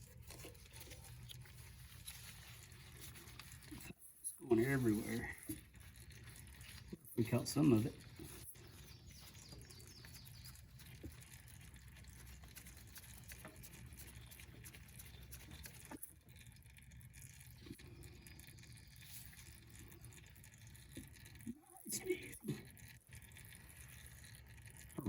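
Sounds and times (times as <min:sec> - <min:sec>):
oil dripping into a pan: 0:00.0 - 0:25.0.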